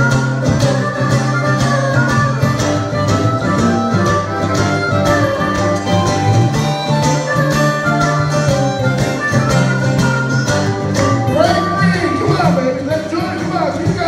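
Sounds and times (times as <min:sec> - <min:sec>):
acoustic guitars strumming: 0:00.0 - 0:14.0
harmonica bent notes: 0:00.0 - 0:14.0.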